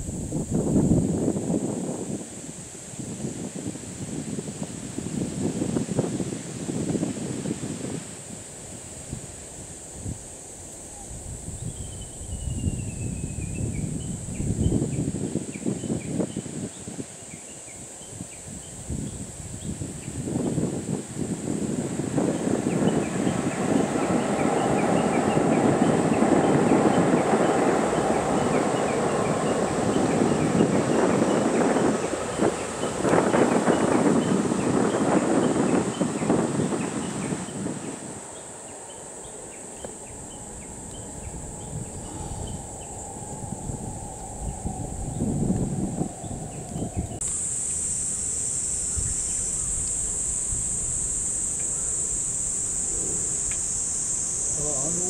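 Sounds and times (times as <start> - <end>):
cicadas droning: 0.0 - 55.0
wind rumble on microphone: 0.0 - 55.0.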